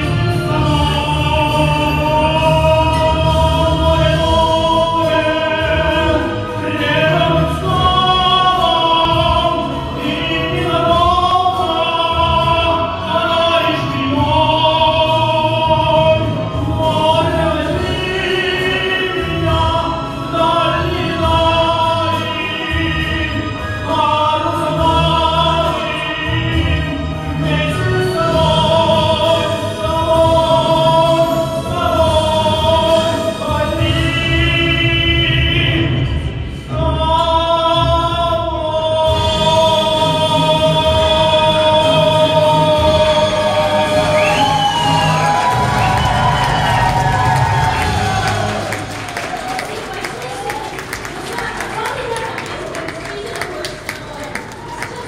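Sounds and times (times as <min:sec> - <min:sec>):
instrumental accompaniment with bass: 0:00.0 - 0:49.8.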